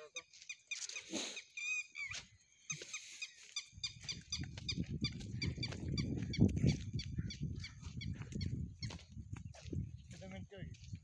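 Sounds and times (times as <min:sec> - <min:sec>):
goats squeaky chirps: 0:00.0 - 0:09.6.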